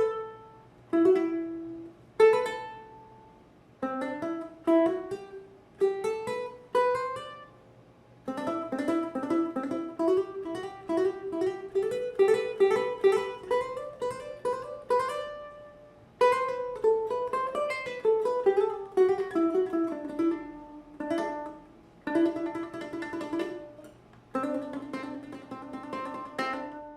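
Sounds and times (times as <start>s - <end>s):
ukulele plucked melody: 0.0s - 7.6s, 8.2s - 26.9s.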